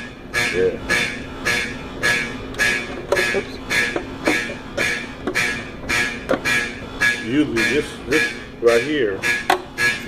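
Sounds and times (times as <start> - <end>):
fire alarm horns pulsing: 0.0 - 10.0.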